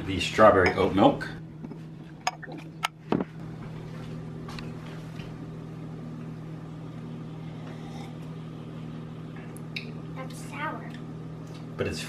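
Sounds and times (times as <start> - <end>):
low room tone hum: 0.0 - 12.0.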